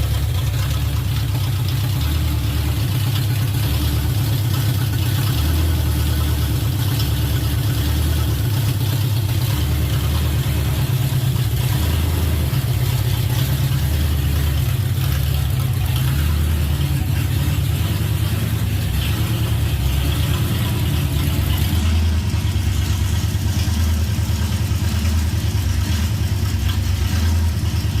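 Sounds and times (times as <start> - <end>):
car engine idling unevenly: 0.0 - 28.0.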